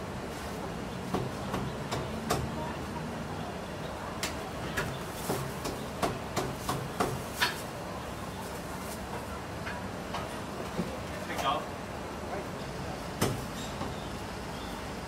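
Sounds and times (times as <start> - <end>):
street background hum: 0.0 - 15.0.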